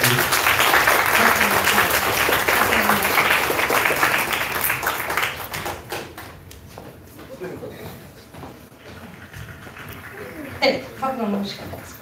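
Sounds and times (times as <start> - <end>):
audience applause: 0.0 - 6.4, 8.7 - 12.0.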